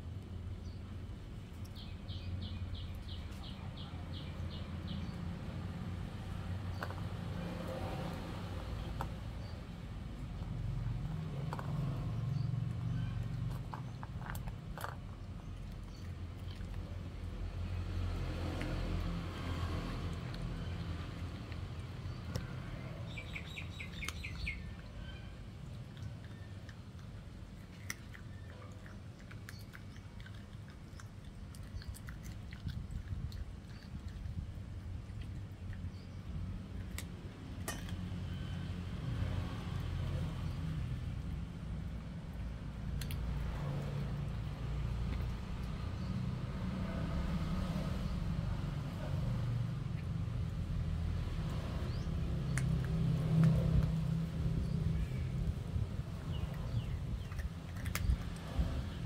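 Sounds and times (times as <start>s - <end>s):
low engine rumble: 0.0s - 59.0s
puppy chewing a bone: 8.8s - 47.4s, 48.6s - 59.0s.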